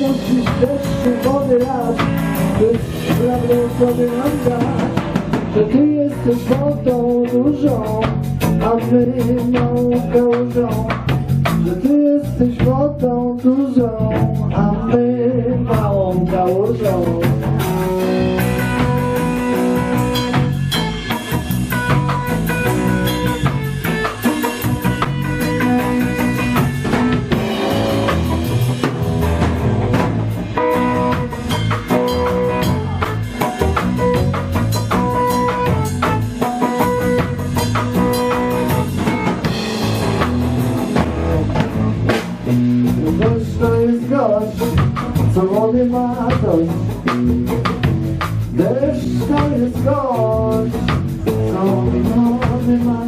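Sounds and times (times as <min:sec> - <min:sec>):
bass line: 0:00.0 - 0:53.0
drum kit beat: 0:00.0 - 0:53.0
guitar melody: 0:00.0 - 0:53.0.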